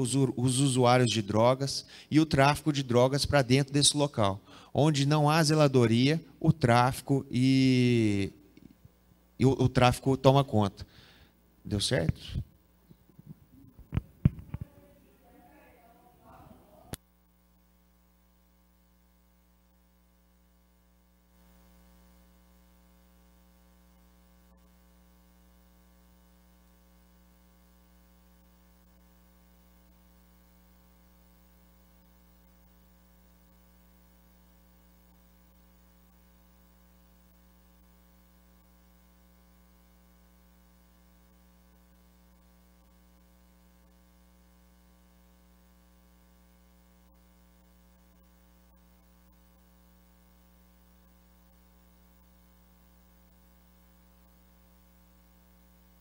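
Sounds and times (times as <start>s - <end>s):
faint electrical hum: 0.0s - 56.0s
low hiss: 0.0s - 56.0s.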